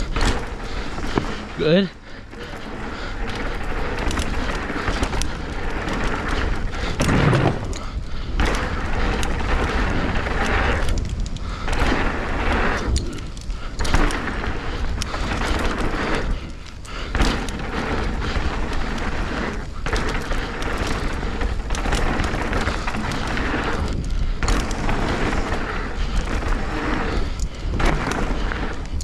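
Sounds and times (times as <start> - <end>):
bike tyres on dirt and rock: 0.0 - 29.0.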